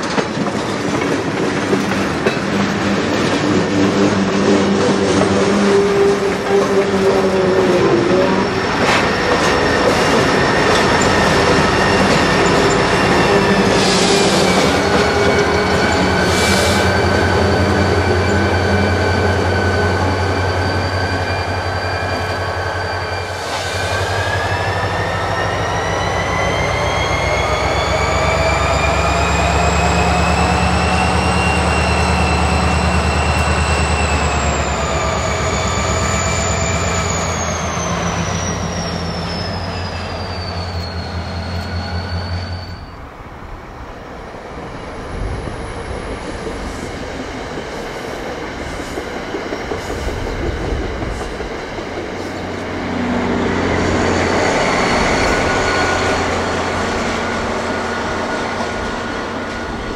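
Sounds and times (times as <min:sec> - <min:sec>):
train high whine: 0:00.0 - 0:59.9
train rumbling by: 0:00.0 - 0:59.9.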